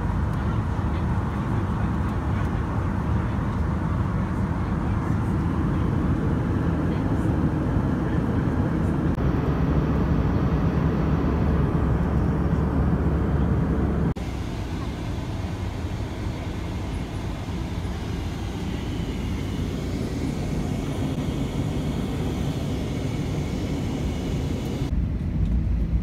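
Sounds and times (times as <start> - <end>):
airplane cabin noise: 0.0 - 26.0.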